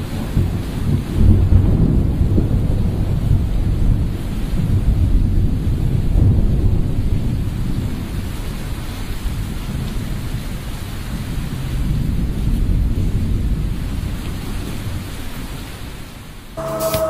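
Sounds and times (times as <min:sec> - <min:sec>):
low rumbling thunder: 0:00.0 - 0:15.7
rain hiss: 0:00.0 - 0:17.0.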